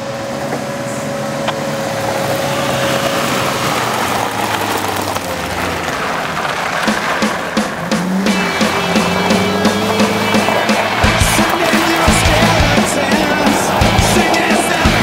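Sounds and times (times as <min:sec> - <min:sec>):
off-road vehicle engines: 0:00.0 - 0:15.0
tyres crunching over gravel: 0:00.0 - 0:15.0.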